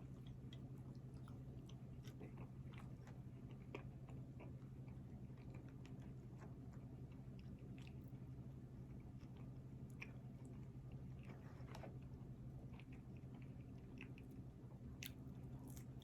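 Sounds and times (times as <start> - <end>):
person chewing food: 0.0 - 8.1, 8.8 - 16.0
steady low hum: 0.0 - 16.0.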